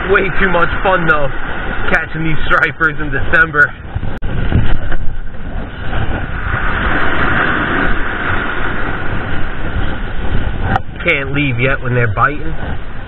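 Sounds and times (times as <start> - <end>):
surf breaking: 0.0 - 13.0
wind on microphone: 0.0 - 13.0.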